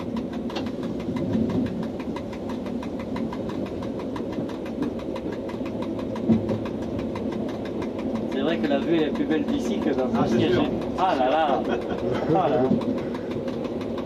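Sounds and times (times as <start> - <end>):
fast rhythmic ticking: 0.0 - 14.0
train running rumble: 0.0 - 14.0.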